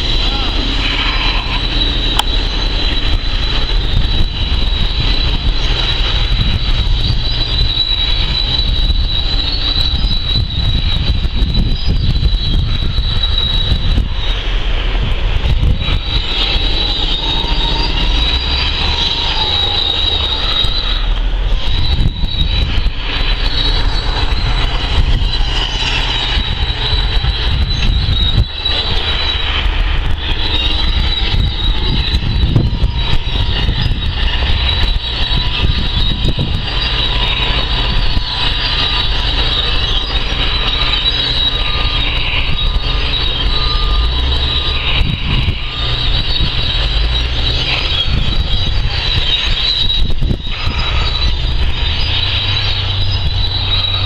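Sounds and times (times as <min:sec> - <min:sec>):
heavy machinery rumbling: 0:00.0 - 0:54.0
high-pitched whine: 0:00.0 - 0:54.0.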